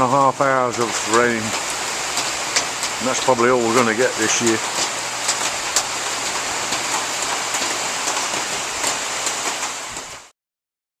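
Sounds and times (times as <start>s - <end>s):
rain falling on surfaces: 0.0s - 10.3s.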